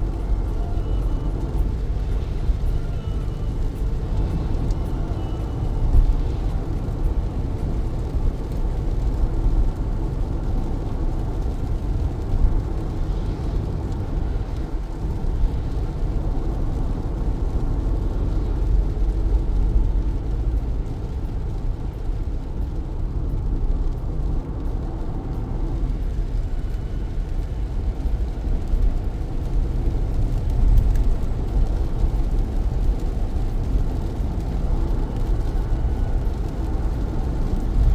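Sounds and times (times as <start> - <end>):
car engine and tyres on wet road: 0.0 - 37.9
rain: 0.0 - 37.9.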